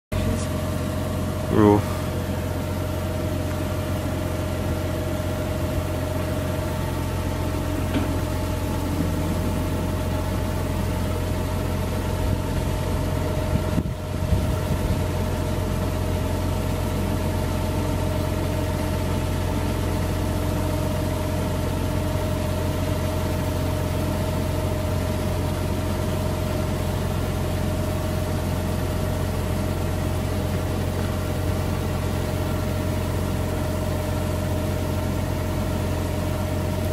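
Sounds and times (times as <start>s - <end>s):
tractor engine running: 0.1s - 36.9s.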